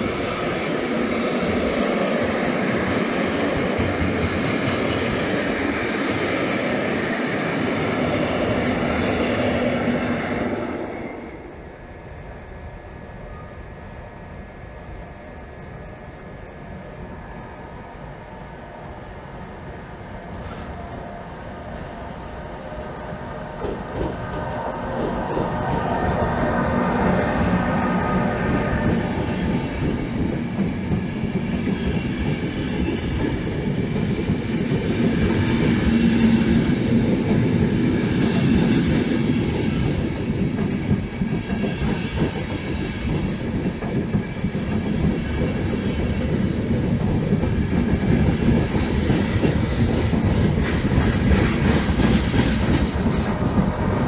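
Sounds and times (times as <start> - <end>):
train wheels rumbling on rail: 0.0 - 13.4, 14.2 - 54.0.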